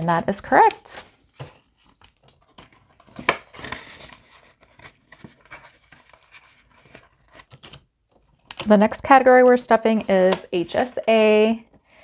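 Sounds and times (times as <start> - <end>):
paper and plastic pages rustling: 0.3 - 11.9.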